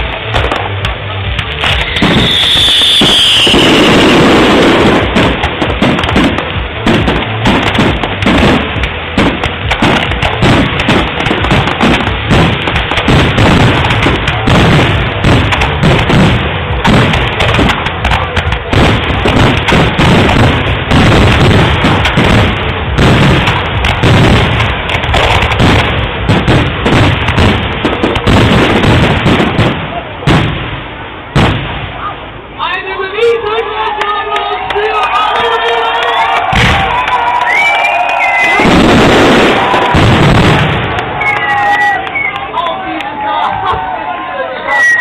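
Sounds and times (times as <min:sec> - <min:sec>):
fireworks booming: 0:00.0 - 0:42.6.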